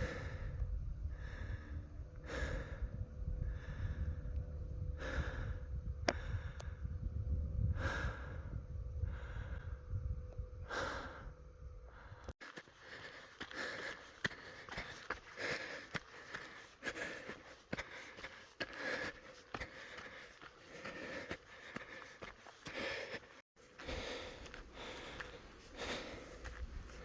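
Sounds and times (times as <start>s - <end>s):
heavy breathing: 0.0s - 7.0s, 7.6s - 10.0s, 10.6s - 27.0s
rumble of footsteps: 0.0s - 27.0s.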